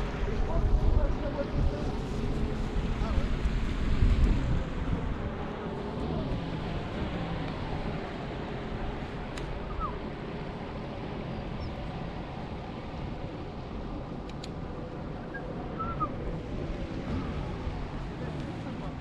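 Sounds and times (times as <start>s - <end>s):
motor running with low rumble: 0.0s - 19.0s
wind noise: 0.0s - 19.0s.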